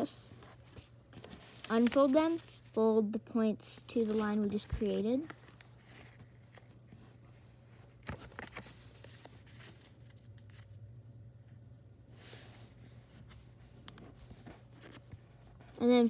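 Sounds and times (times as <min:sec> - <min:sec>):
low steady hum: 0:00.0 - 0:16.0
paper rustling and creasing: 0:00.4 - 0:02.8, 0:03.9 - 0:10.8, 0:12.2 - 0:16.0.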